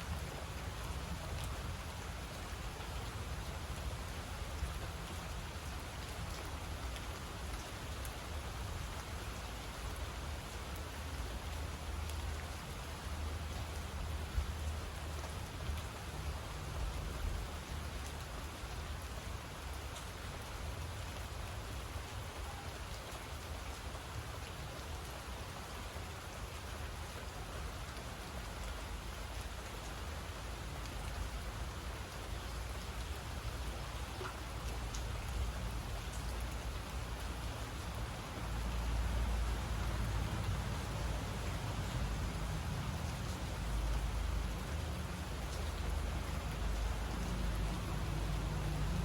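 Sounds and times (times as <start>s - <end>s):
rain pattering: 0.0s - 49.0s.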